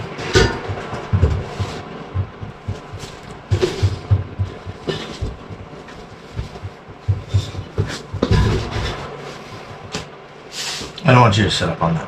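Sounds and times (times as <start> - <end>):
dull low thumps: 0.0 - 9.9.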